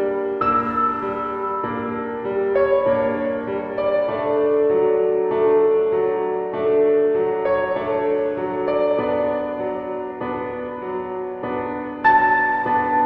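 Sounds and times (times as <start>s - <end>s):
slow piano notes: 0.0s - 13.0s.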